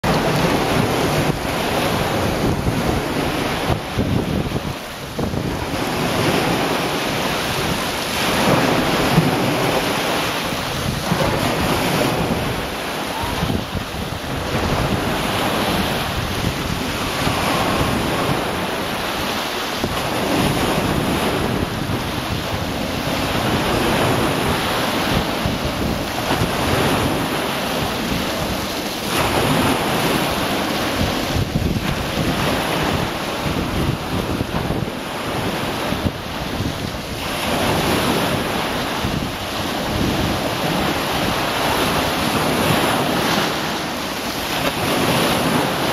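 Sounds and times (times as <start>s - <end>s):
waves washing up stony shore: 0.0s - 45.9s
wind buffeting microphone: 0.0s - 45.9s.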